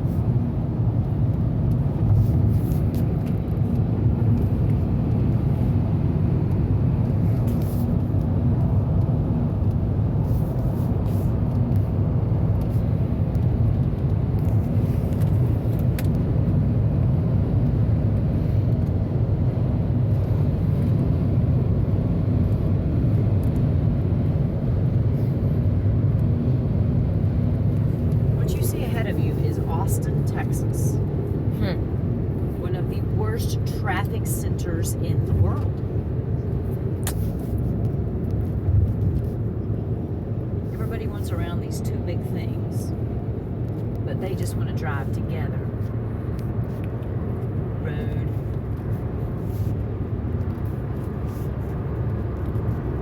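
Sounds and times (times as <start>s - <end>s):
car cabin road rumble: 0.0s - 53.0s.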